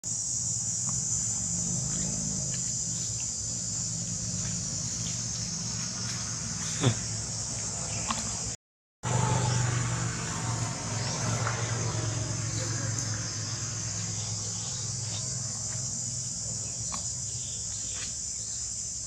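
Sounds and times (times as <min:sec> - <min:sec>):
high insect drone: 0:00.0 - 0:19.0
low engine-like hum: 0:00.2 - 0:17.9.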